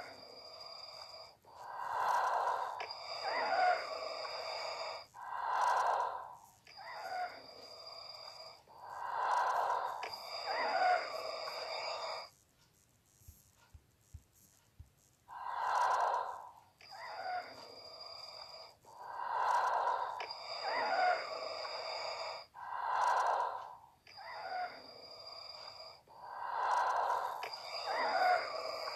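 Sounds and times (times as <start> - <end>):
wheezing respirator breaths: 0.0 - 13.7, 14.4 - 28.9.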